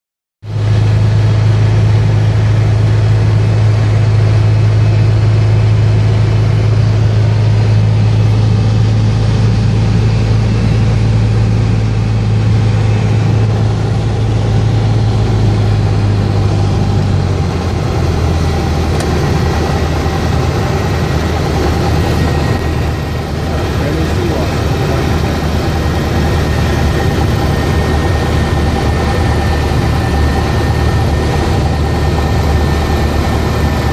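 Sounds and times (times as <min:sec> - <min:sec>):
light plane engine droning: 0:00.5 - 0:33.9.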